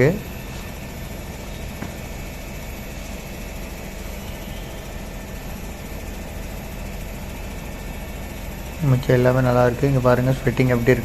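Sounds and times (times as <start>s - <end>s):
air conditioner unit humming: 0.0s - 11.0s
fan noise: 0.0s - 11.0s.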